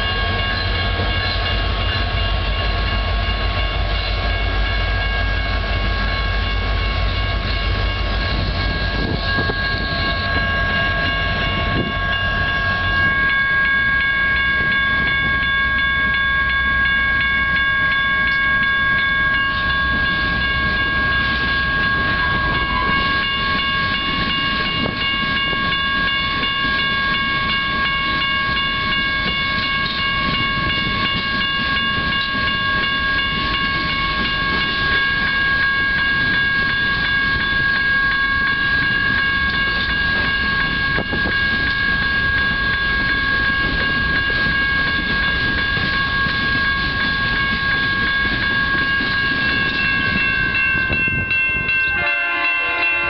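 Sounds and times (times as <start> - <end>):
diesel locomotive rumble: 0.0 - 53.0
steady high ringing tones: 0.0 - 53.0.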